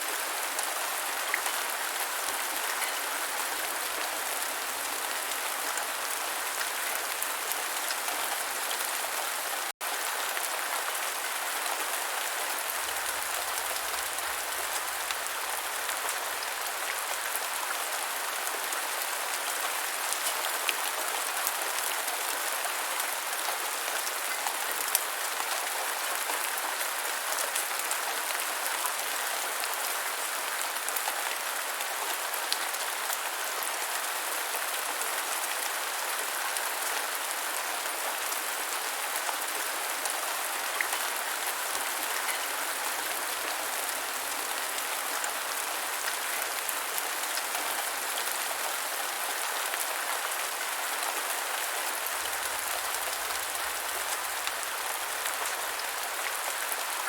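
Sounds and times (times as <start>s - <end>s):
rain falling on ground: 0.0s - 57.0s.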